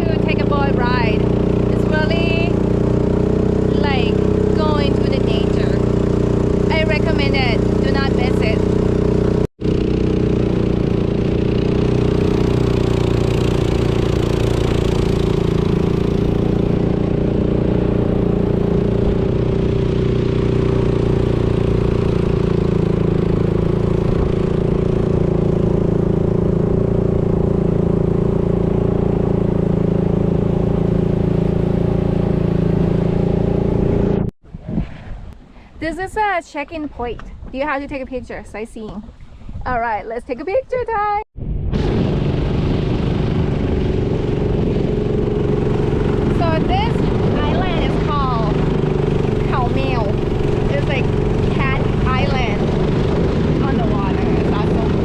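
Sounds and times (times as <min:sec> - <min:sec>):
boat engine running: 0:00.0 - 0:34.3, 0:35.8 - 0:55.0.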